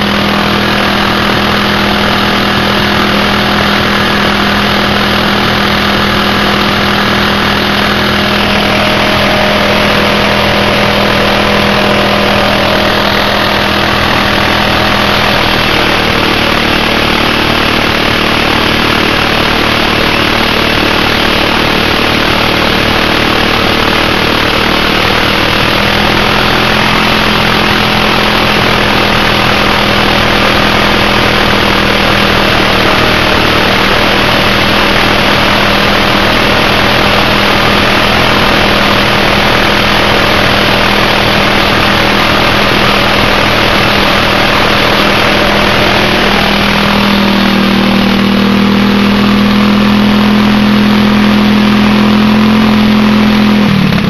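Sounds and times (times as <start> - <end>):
tire scrubbing hiss: 0.0 - 53.5
lawn tractor engine running: 0.0 - 54.0.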